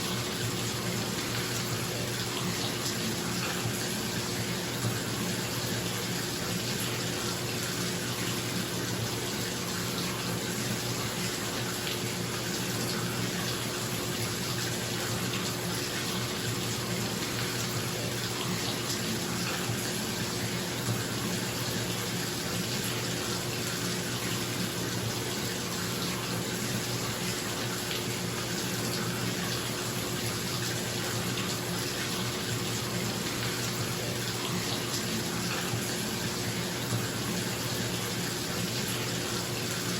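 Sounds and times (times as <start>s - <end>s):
tap running into bathtub: 0.0s - 39.9s.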